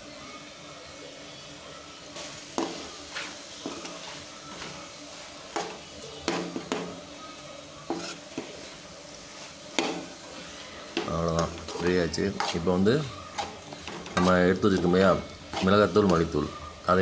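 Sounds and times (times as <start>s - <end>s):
faint sizzling: 0.0s - 17.0s
metal spatula scraping a pan: 2.2s - 7.0s, 7.8s - 16.8s.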